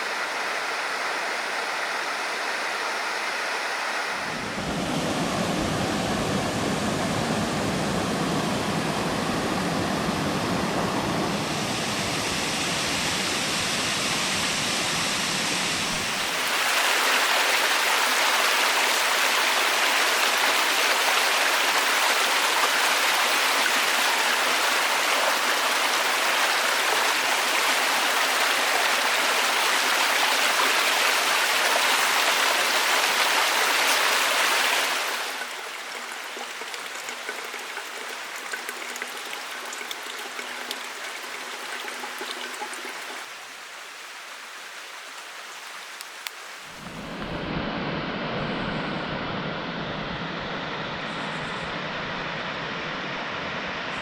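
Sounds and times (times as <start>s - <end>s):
waterfall rushing: 0.0s - 47.5s.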